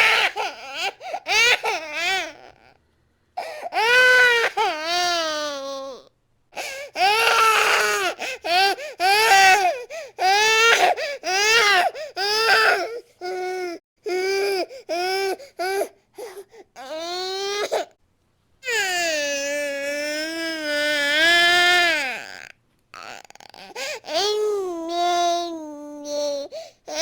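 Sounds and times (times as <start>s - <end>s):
baby crying: 0.0s - 2.7s, 3.4s - 15.9s, 18.6s - 27.0s.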